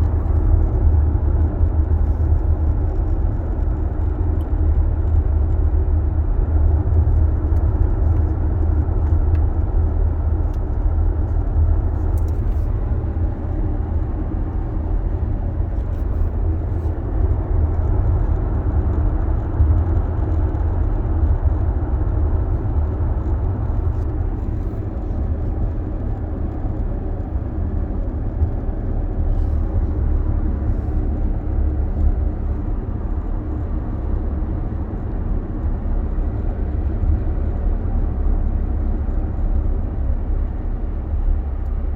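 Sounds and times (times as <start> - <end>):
car cabin road rumble: 0.0 - 41.9.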